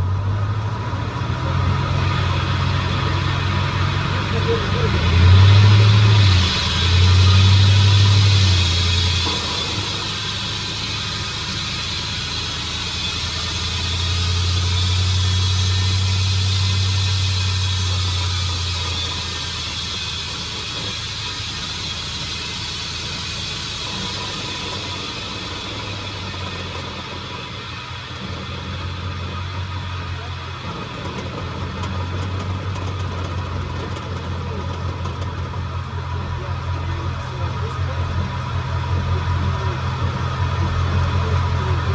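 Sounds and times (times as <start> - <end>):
vehicle low drone: 0.0 - 41.9.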